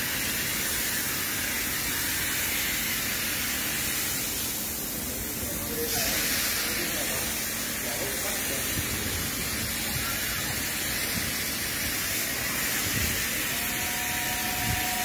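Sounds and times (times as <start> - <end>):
spray gun hissing: 0.0 - 15.0.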